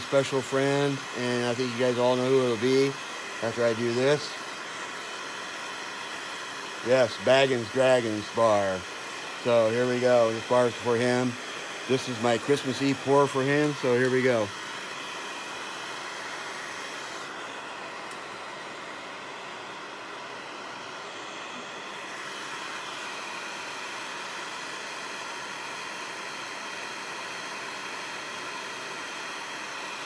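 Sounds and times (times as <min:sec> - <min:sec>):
gas torch flame hissing: 0:00.0 - 0:30.0.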